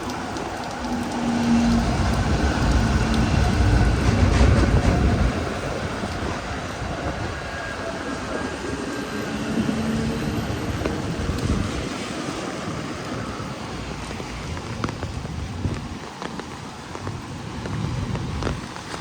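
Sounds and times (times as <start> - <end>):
heavy rain hissing: 0.0 - 19.0
tram running on rails: 0.0 - 19.0.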